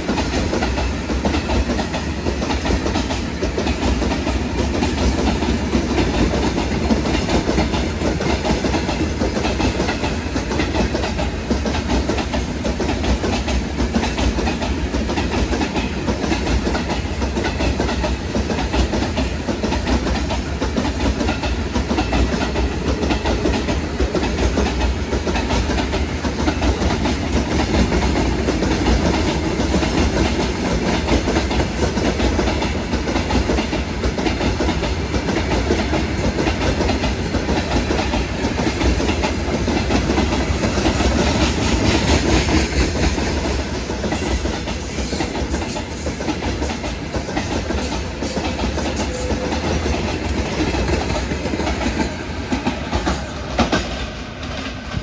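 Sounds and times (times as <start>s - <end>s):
train low rumble: 0.0s - 55.0s
train wheels clattering on rails: 0.0s - 55.0s.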